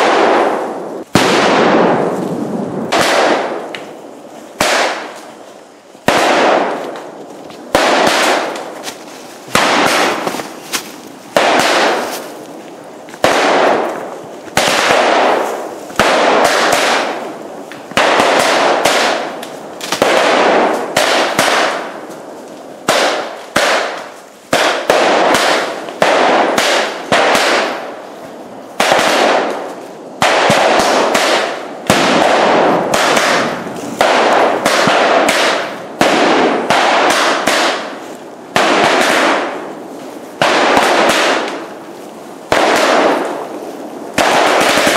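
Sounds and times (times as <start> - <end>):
firecrackers banging: 0.0 - 44.9.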